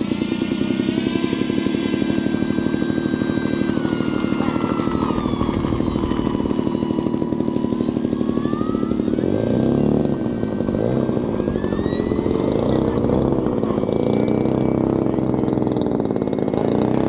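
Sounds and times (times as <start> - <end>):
electric motor and propeller whining: 0.0 - 17.0
rapid low throbbing: 0.0 - 17.0.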